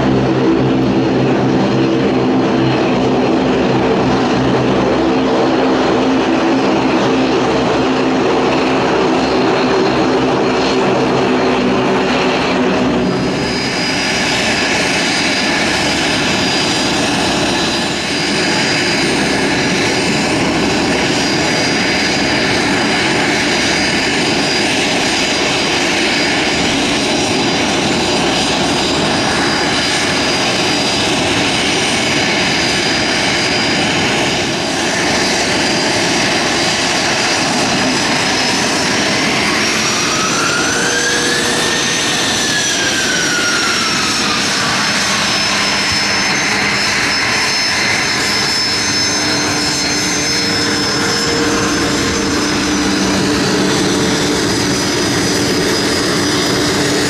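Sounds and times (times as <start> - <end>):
jet engines roaring with whine: 0.0 - 57.0.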